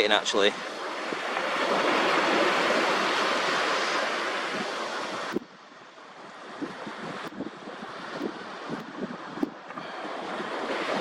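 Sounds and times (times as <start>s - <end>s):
sea surf washing in: 0.0s - 11.0s
water lapping: 0.0s - 11.0s.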